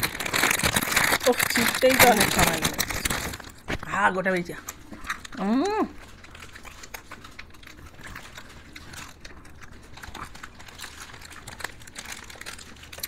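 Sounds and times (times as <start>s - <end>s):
wrappers rustling: 0.0s - 13.0s.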